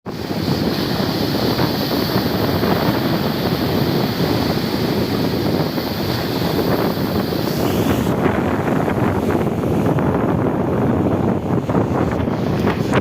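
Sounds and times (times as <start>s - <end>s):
sea surf rushing: 0.1s - 13.0s
wind buffeting microphone: 0.1s - 13.0s.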